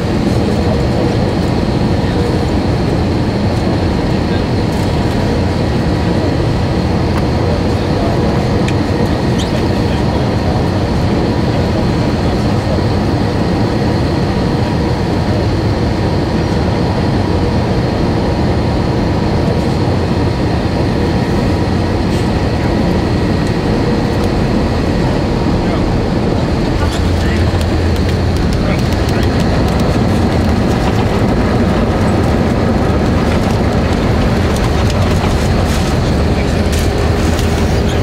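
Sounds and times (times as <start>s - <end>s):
airliner cabin roar: 0.0s - 38.0s
thin steady whines: 0.0s - 38.0s.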